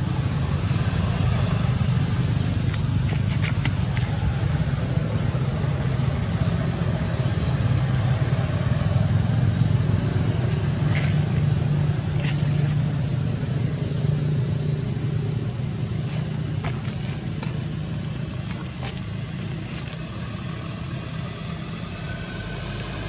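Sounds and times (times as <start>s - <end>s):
constant high hiss: 0.0s - 23.0s.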